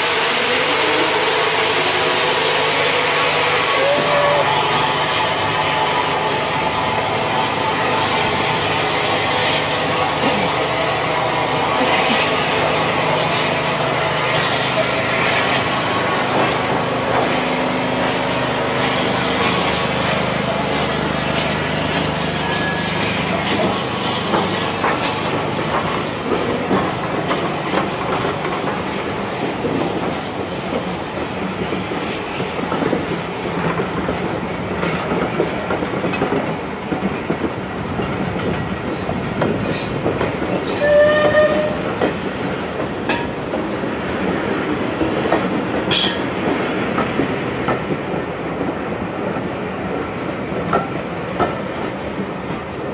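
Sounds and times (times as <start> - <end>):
train coaches rumbling past: 0.0 - 52.9.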